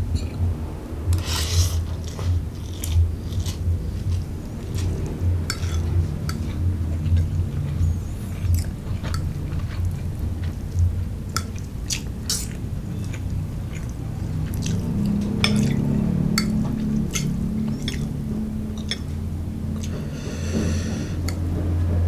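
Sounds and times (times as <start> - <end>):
steady low hum: 0.0 - 22.0
person chewing food: 1.1 - 21.4.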